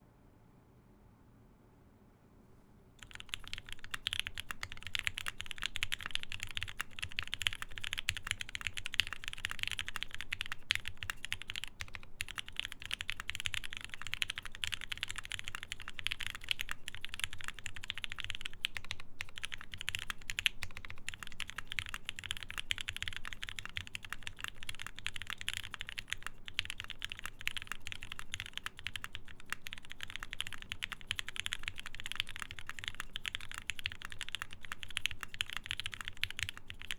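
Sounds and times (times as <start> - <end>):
mechanical keyboard typing: 3.0 - 36.9.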